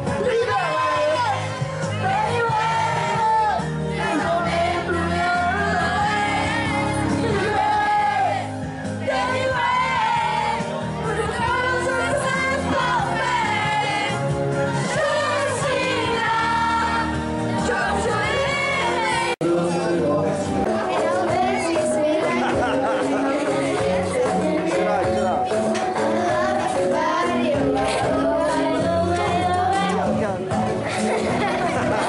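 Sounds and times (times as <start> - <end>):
people singing along and shouting: 0.0 - 19.9, 20.6 - 32.0
loud pop music: 0.0 - 32.0.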